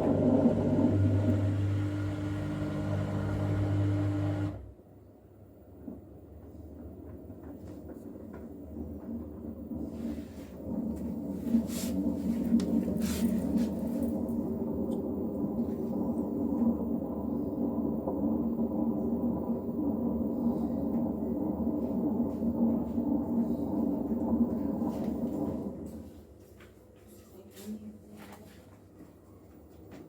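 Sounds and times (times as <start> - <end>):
washing machine spin drone: 0.0 - 26.2.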